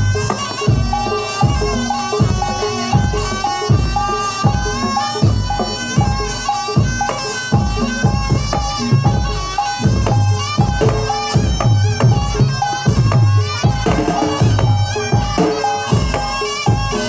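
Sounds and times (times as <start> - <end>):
shrill reed wind instrument: 0.0 - 17.0.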